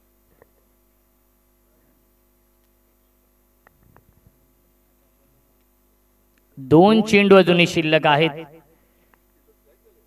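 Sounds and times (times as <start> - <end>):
faint electrical mains hum: 0.0 - 10.0.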